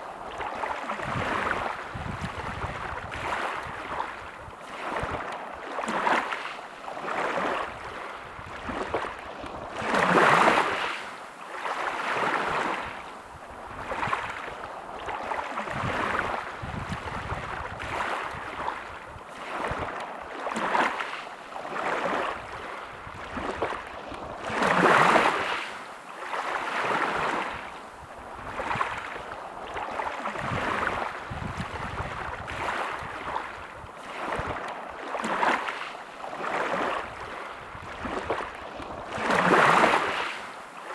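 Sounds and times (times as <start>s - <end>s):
small sea waves washing on shore: 0.0s - 40.9s.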